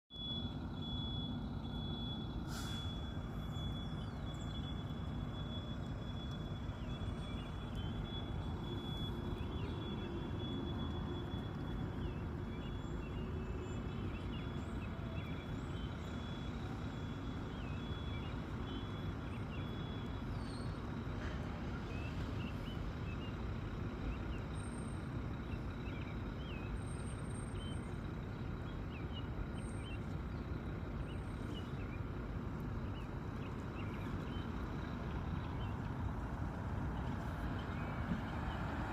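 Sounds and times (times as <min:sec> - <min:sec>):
low rumble of road traffic: 0:00.1 - 0:38.9.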